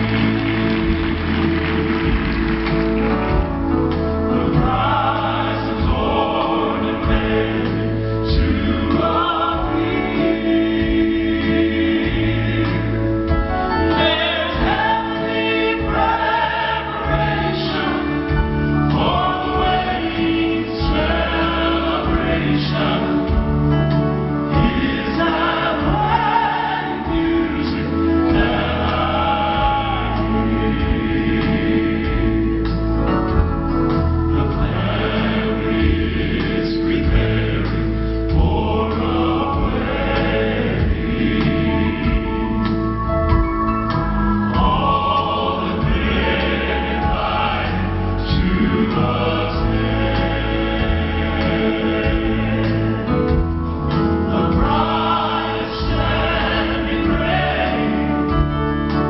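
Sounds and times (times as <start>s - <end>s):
male vocal ensemble singing: 0.0s - 43.0s, 43.9s - 59.0s
keyboard: 0.0s - 59.0s
walking bass line: 0.0s - 59.0s.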